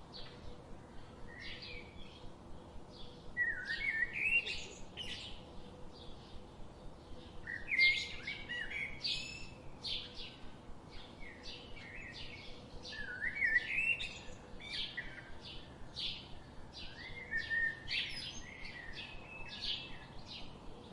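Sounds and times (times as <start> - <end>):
bird chirping: 0.0 - 20.9.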